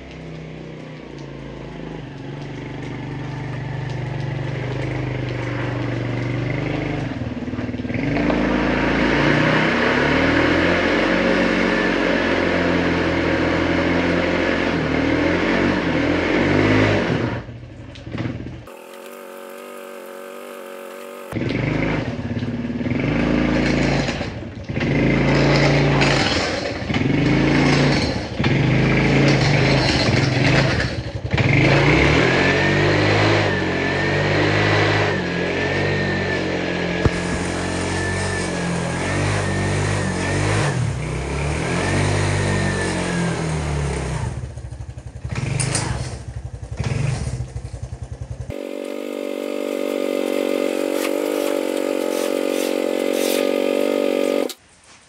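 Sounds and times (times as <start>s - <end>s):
quad bike engine revving: 0.0s - 54.6s.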